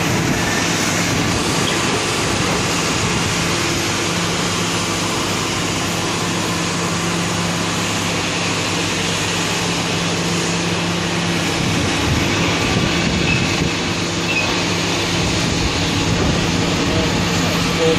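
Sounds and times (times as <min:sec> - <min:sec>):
loud mechanical drone: 0:00.0 - 0:17.9.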